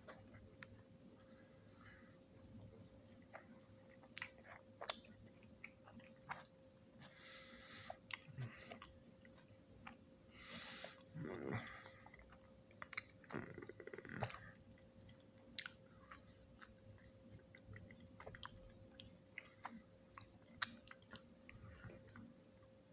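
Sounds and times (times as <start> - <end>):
person chewing cookie: 0.0 - 22.7.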